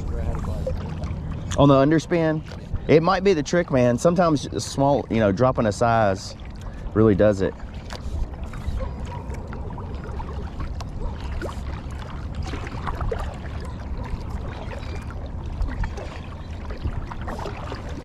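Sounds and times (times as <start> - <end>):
steady low rumble: 0.0 - 18.0
water lapping against kayak hull: 0.0 - 18.0.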